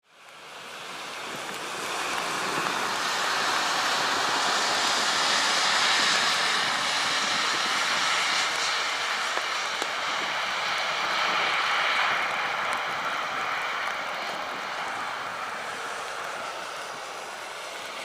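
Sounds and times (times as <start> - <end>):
vehicle tyre and road noise: 0.0 - 18.0.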